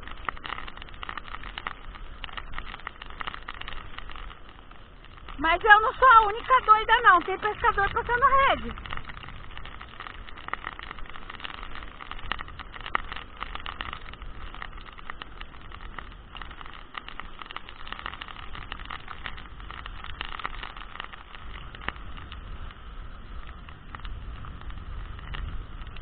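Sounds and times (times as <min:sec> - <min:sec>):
heavy rain: 0:00.0 - 0:26.0
raindrops tapping near microphone: 0:00.0 - 0:26.0
wind rumble on microphone: 0:00.0 - 0:26.0.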